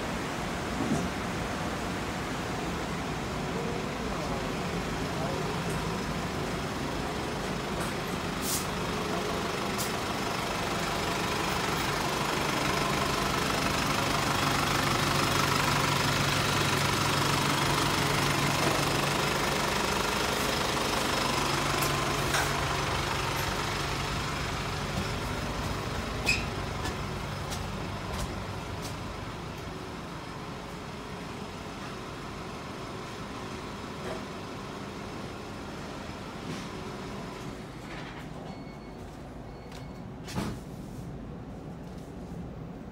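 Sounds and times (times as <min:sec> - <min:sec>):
vehicle engine humming: 0:00.0 - 0:37.8.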